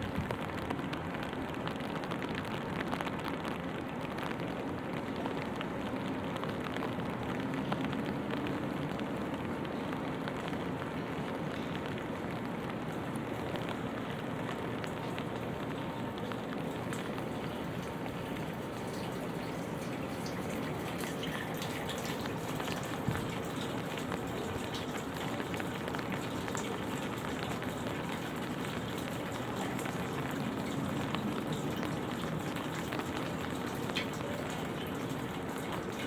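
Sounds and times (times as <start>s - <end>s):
light rain falling: 0.0s - 36.0s.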